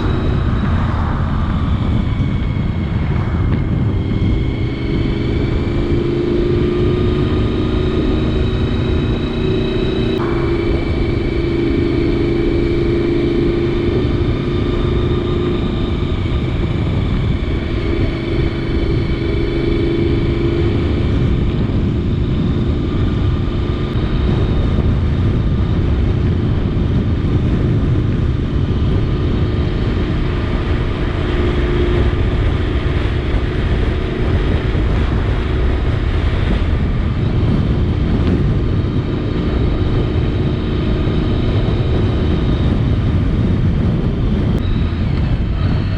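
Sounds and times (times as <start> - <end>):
motorcycle engine cruising: 0.0 - 45.9
wind rush: 0.0 - 45.9.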